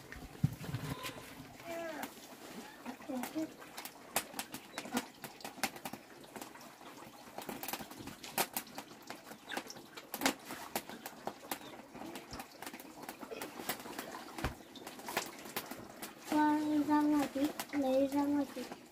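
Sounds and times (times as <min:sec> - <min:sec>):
fire burning: 0:00.0 - 0:18.9.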